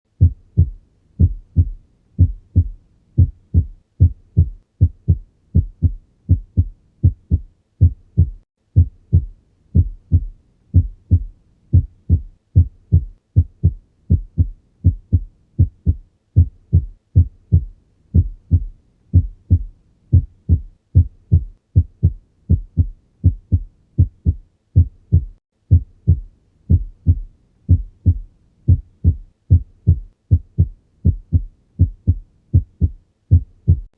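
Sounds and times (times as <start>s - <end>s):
heartbeat thuds through stethoscope: 0.2s - 33.9s.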